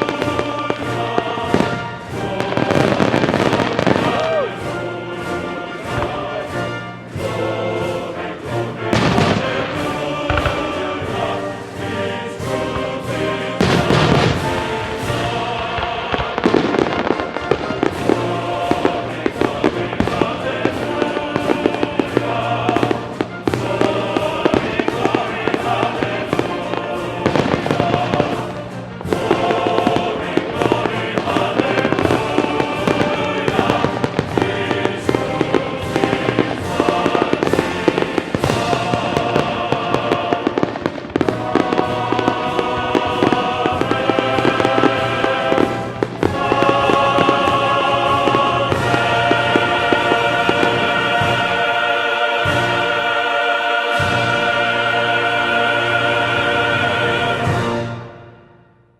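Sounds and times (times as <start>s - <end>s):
fireworks banging and crackling: 0.0s - 53.2s
music soundtrack: 0.0s - 58.9s.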